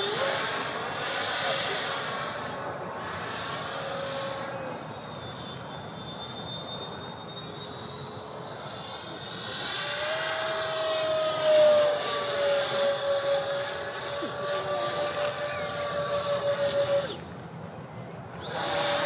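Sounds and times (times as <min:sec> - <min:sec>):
model jet fans whining: 0:00.0 - 0:19.0.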